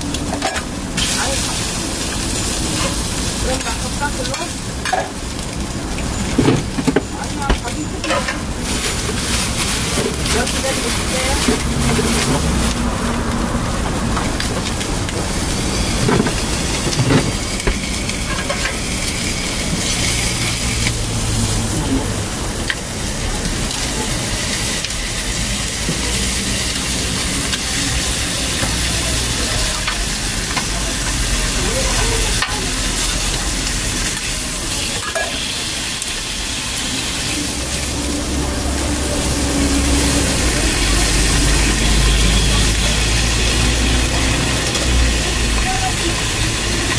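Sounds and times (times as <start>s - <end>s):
food sizzling on griddle: 0.0s - 46.9s.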